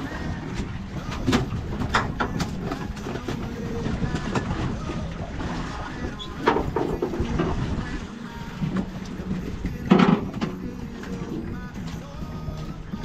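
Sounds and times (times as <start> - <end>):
water lapping at boat hull: 0.0 - 13.0
wind rumbling on microphone: 0.0 - 13.0.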